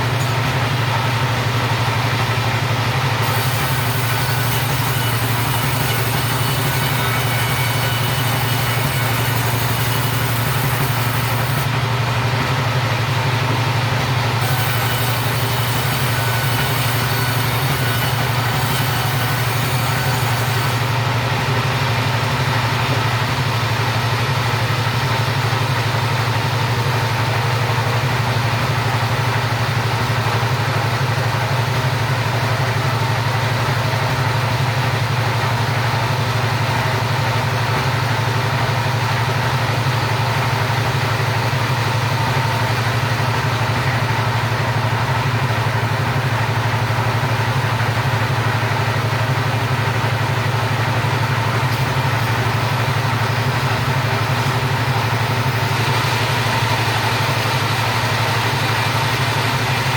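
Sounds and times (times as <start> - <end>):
chainsaw engine sawing timber: 0.0 - 59.9.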